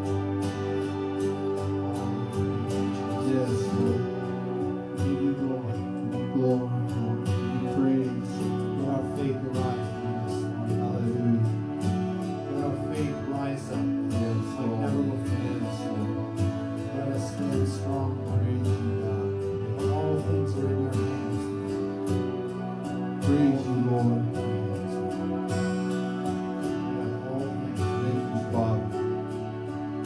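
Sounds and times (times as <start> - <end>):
worship music with strummed guitar: 0.0 - 30.0.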